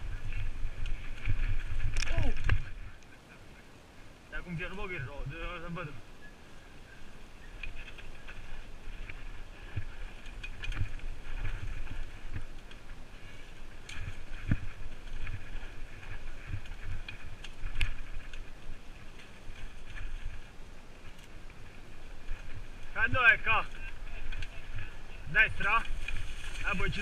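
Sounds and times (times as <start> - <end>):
bike rattling over bumps: 0.0 - 2.9, 7.5 - 27.0
bike tyres rumbling on dirt: 0.0 - 2.9, 7.4 - 27.0
wind on microphone: 0.0 - 3.6, 6.2 - 27.0.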